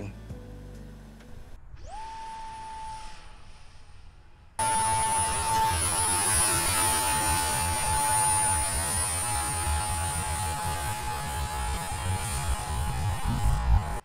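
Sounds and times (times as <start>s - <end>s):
electric ducted fan whine: 0.8s - 14.0s
wind rumbling on microphone: 1.4s - 14.0s.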